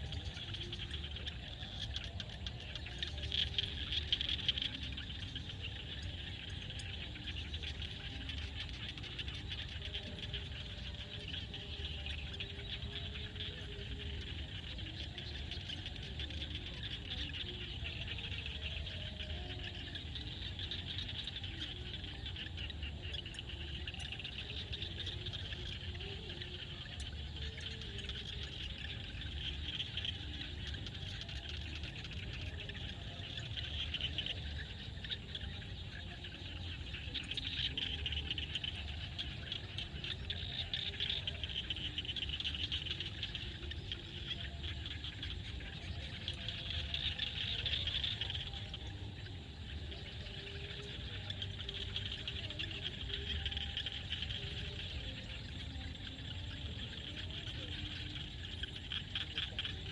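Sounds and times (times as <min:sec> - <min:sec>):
frogs trilling: 0:00.0 - 0:59.9
short low frog calls: 0:00.0 - 0:59.9.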